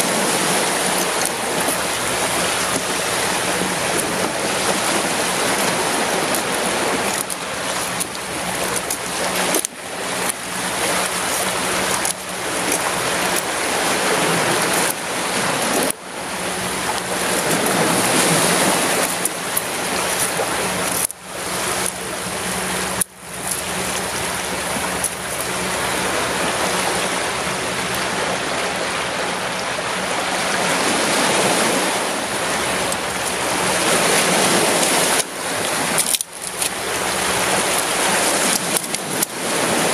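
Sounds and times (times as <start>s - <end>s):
surf washing against rocks: 0.0s - 39.9s.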